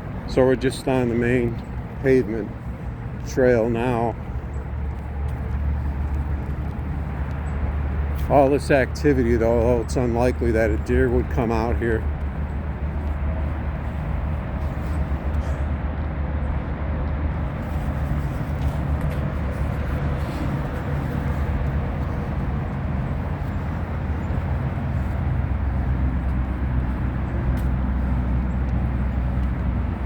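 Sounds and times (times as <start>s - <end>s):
highway traffic rumble: 0.0s - 30.0s.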